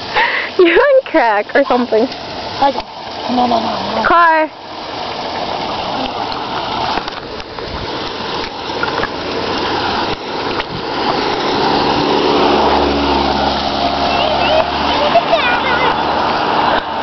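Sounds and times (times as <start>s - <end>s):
car engine hum: 0.0s - 17.0s
rain on a wet road: 0.0s - 17.0s.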